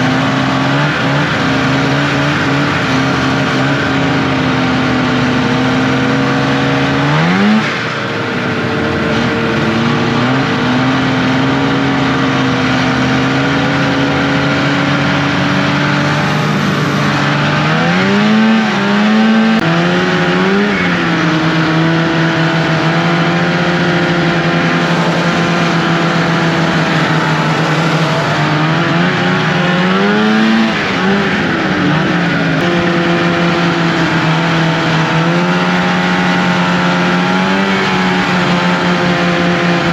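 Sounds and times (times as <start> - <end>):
snowmobile two-stroke engine running: 0.0 - 39.9.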